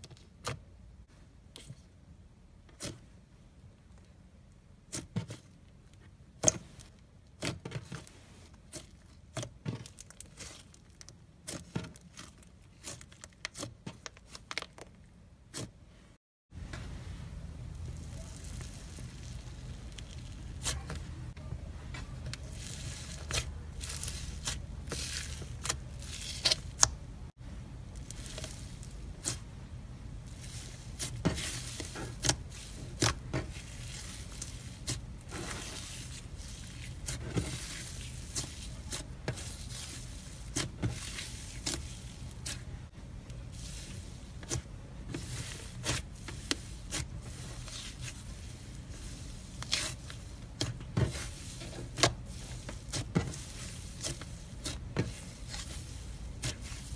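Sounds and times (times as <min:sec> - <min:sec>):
slime squishing: 0:06.4 - 0:15.8, 0:17.6 - 0:21.4, 0:22.0 - 0:56.9.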